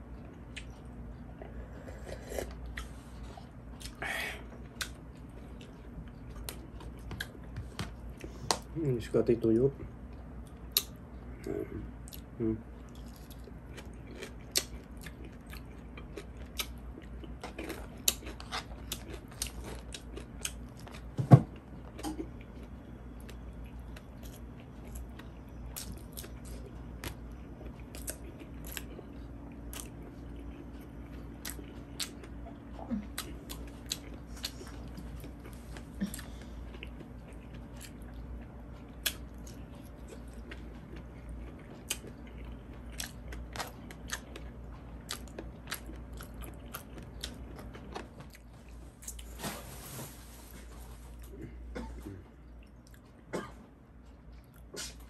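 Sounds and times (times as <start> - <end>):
chewing with crisp crunches: 0.0 - 8.7, 9.4 - 49.3, 51.1 - 55.0.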